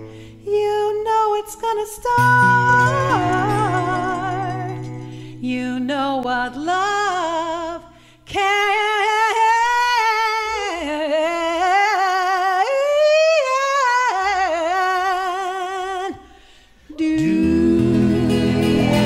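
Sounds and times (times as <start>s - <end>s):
woman singing wordless notes: 0.4s - 16.2s, 16.9s - 19.0s.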